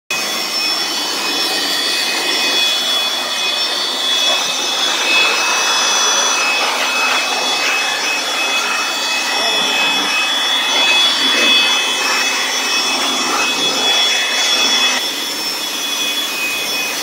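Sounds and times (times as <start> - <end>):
electric blower rushing air: 0.1 - 17.0.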